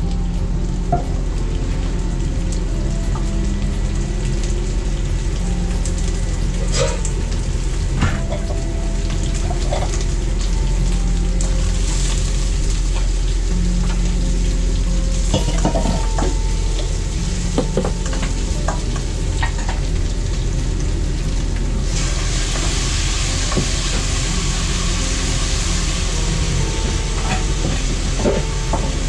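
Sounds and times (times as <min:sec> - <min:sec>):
food sizzling: 0:00.0 - 0:29.0
low rumble: 0:00.0 - 0:29.0.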